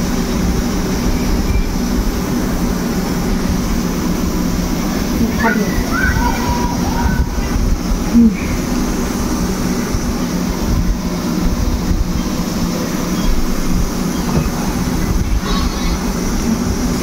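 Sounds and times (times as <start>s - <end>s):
low mechanical rumble with hum: 0.0s - 17.0s.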